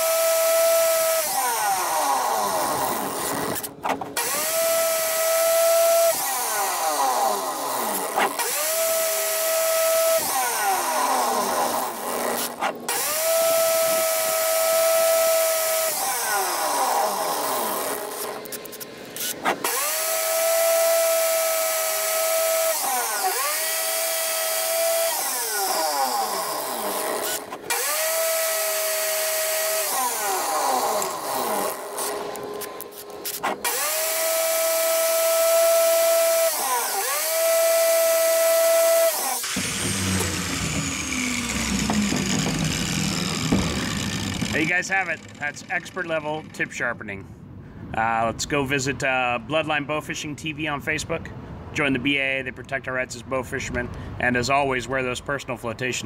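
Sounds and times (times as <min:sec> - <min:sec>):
cordless drill whine: 0:00.0 - 0:46.6
angle grinder grinding steel: 0:00.0 - 0:47.0.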